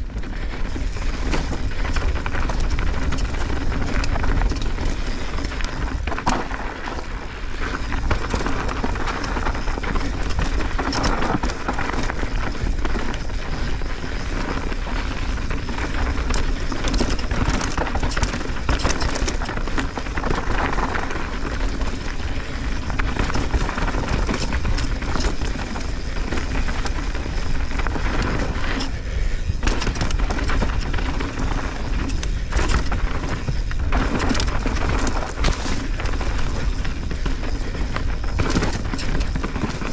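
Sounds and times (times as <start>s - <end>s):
bike rattling and knocking: 0.0s - 39.9s
bike tyre rumble: 0.0s - 39.9s.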